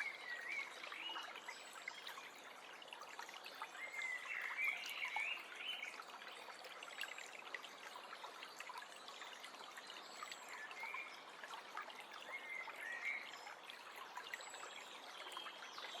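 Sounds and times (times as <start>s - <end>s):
stream trickling and babbling: 0.0s - 16.0s.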